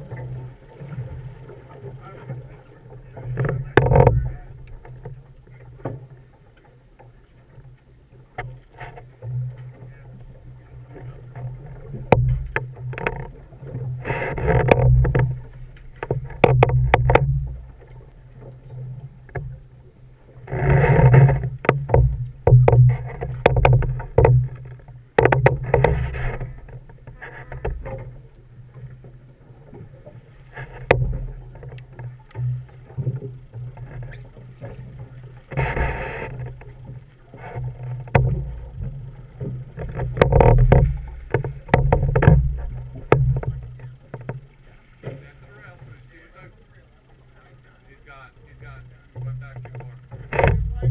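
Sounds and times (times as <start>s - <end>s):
boat engine humming: 0.0s - 50.9s.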